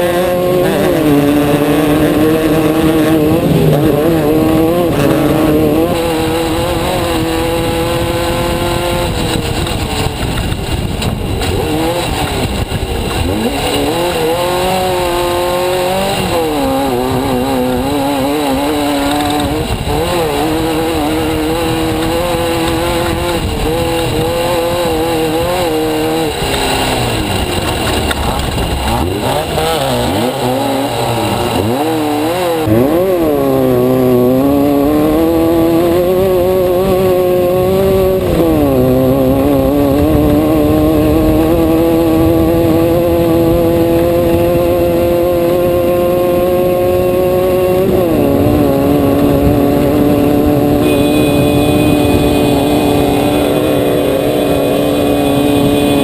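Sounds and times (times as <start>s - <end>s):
racing engine revving: 0.0s - 56.0s.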